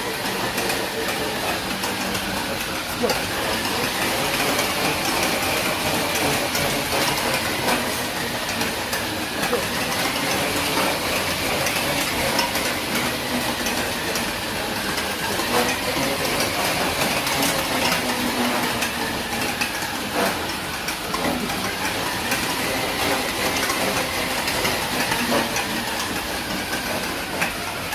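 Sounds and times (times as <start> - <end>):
dog paws knocking on treadmill: 0.0 - 27.9
treadmill belt rattling: 0.0 - 27.9.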